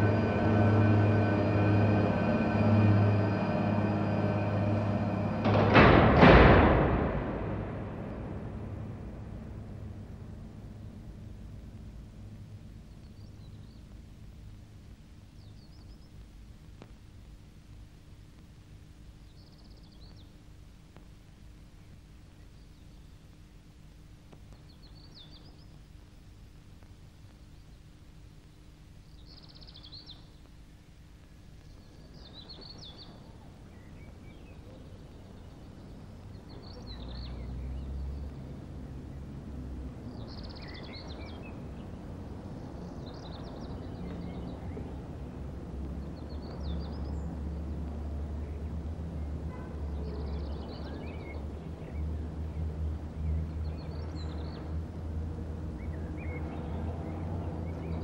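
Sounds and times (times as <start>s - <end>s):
low droning rumble: 0.0s - 20.2s, 29.2s - 58.0s.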